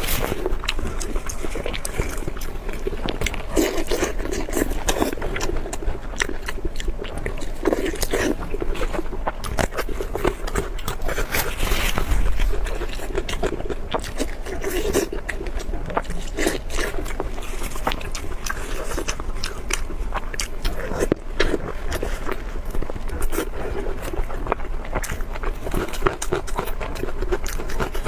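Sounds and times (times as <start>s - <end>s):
chewing and biting food: 0.0s - 28.0s.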